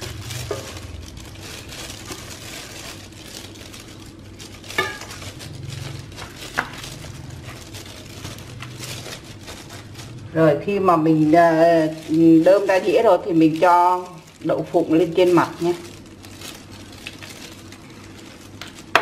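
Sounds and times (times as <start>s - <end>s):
gloved hands rustling food: 0.0s - 19.0s.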